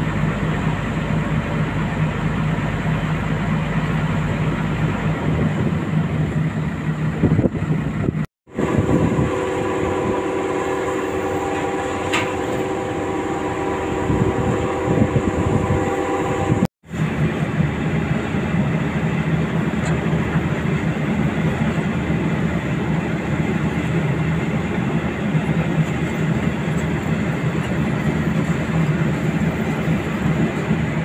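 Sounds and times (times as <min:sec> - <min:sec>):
heavy machinery engine drone: 0:00.0 - 0:31.0
humming drone: 0:00.0 - 0:31.0.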